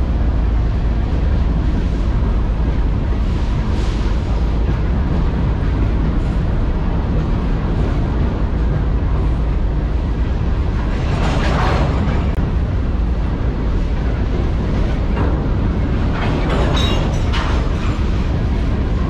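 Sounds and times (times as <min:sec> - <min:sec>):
train cars clattering: 0:00.0 - 0:19.0
train wheels rumbling on rail: 0:00.0 - 0:19.0.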